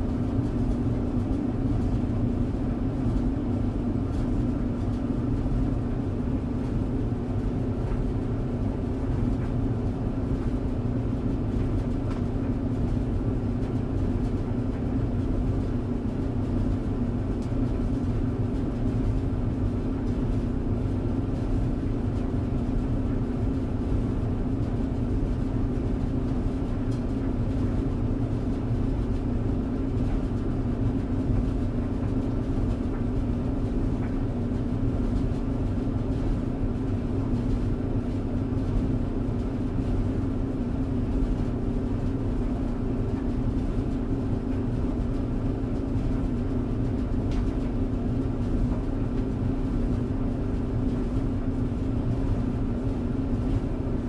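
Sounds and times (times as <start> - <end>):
clothes dryer humming: 0.0 - 54.0.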